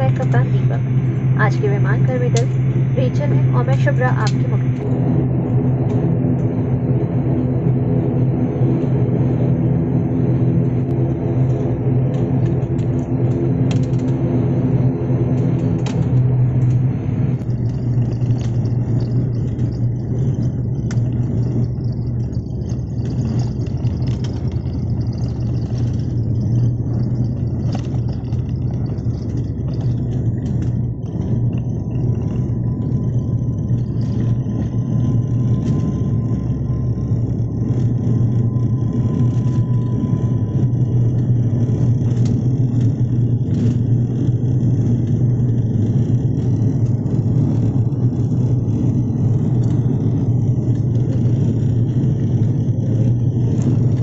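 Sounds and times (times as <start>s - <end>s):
jet engines humming: 0.0s - 54.0s
rough rumble of takeoff: 0.0s - 54.0s.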